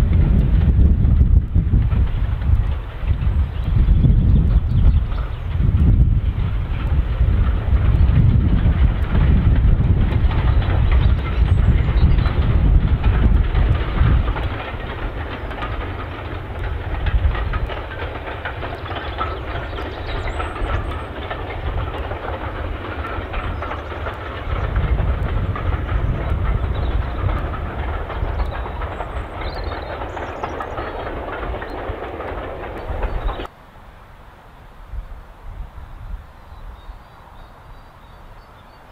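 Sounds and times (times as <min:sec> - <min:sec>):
train wheels clattering: 0:00.0 - 0:33.5
low train rumble: 0:00.0 - 0:38.9.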